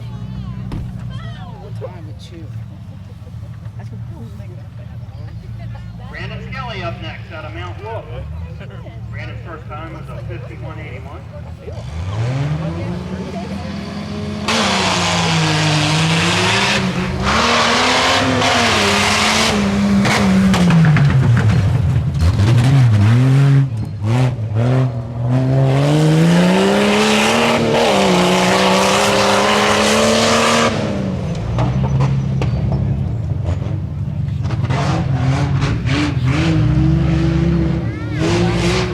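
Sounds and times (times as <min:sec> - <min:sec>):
truck engine revving: 0:00.0 - 0:38.9.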